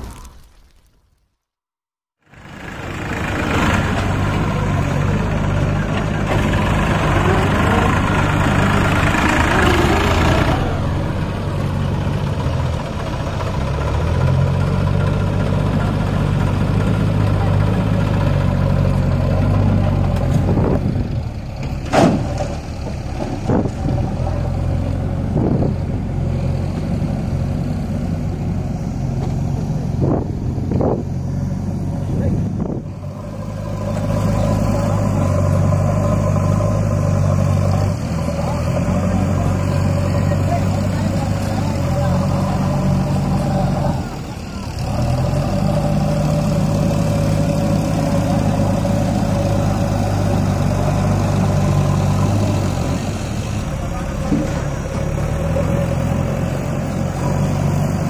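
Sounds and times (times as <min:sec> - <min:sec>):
tractor diesel engine running: 0:02.2 - 0:58.0.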